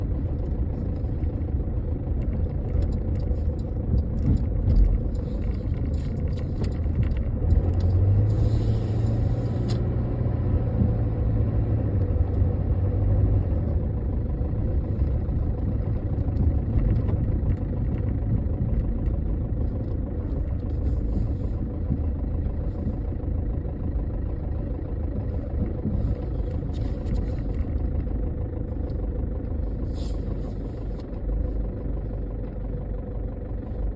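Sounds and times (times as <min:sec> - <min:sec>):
car engine rough idle: 0:00.0 - 0:33.9
steady low hum: 0:00.0 - 0:33.9.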